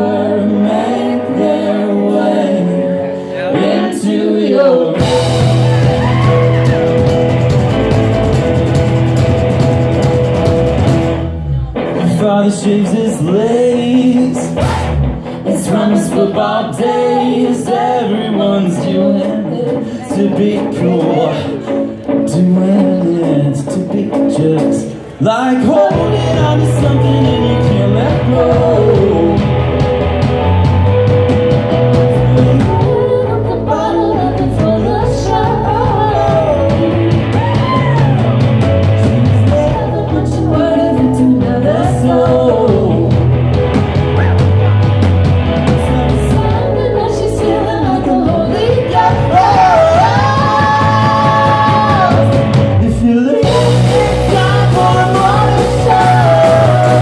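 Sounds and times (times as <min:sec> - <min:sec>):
woman singing lead vocal: 0:00.0 - 0:06.8, 0:11.4 - 0:29.6, 0:32.0 - 0:38.3, 0:39.0 - 0:43.2, 0:45.7 - 0:57.0
bass guitar: 0:00.0 - 0:57.0
drums: 0:00.0 - 0:57.0
electric guitar: 0:00.0 - 0:57.0.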